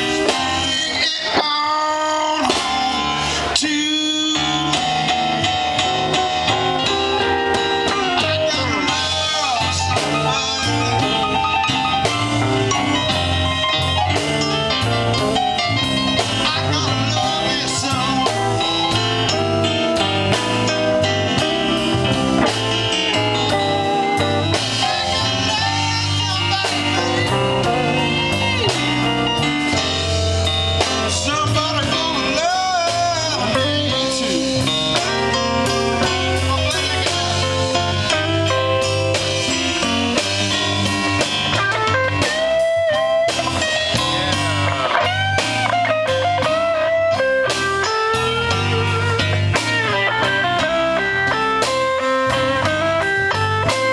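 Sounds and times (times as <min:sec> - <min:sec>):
live blues band playing: 0:00.0 - 0:53.9.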